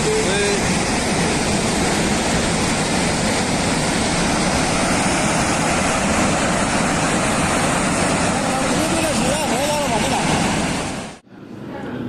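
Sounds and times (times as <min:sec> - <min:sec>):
rushing flood torrent: 0:00.0 - 0:11.2.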